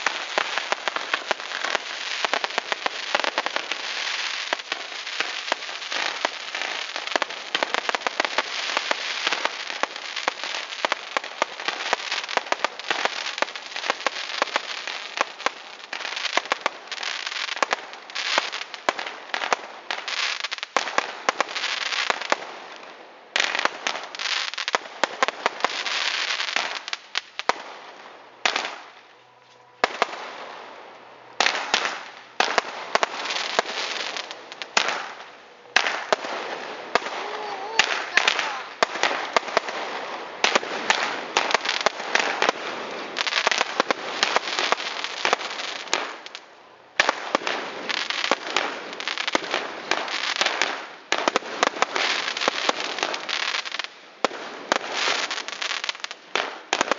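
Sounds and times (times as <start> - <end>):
fireworks crackling and popping: 0.0 - 56.9.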